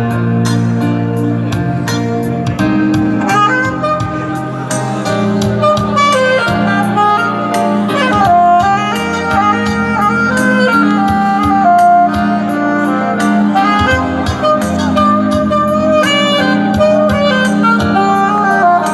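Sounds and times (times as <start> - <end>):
jazzy tune with saxophone: 0.0 - 18.9
steady beat: 0.0 - 18.9.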